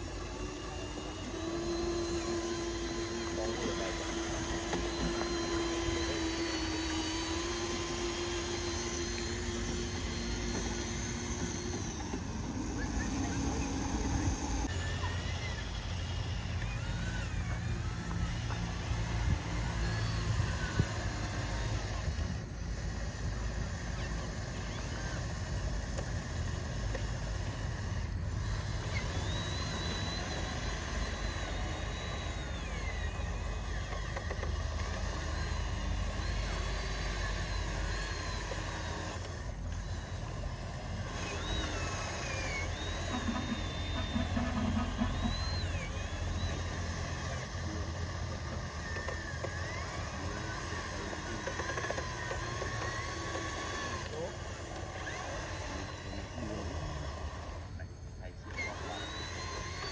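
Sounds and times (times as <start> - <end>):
electric motors whining: 0.0 - 59.9.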